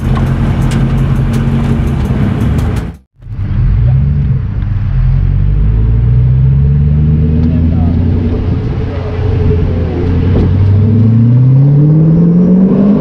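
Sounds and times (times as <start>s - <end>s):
loud car engine running: 0.0s - 13.0s.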